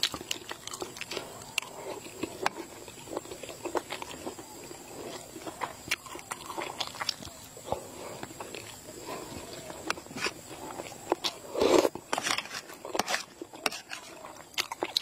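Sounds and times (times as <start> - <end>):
person chewing wetly: 0.0 - 15.0.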